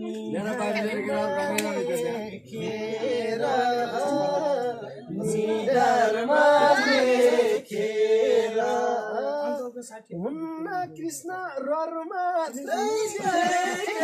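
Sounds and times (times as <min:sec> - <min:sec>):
men singing: 0:00.0 - 0:09.7, 0:12.2 - 0:14.0.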